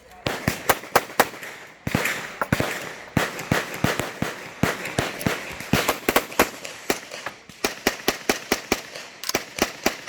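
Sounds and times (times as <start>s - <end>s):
gunshots: 0.2s - 10.0s.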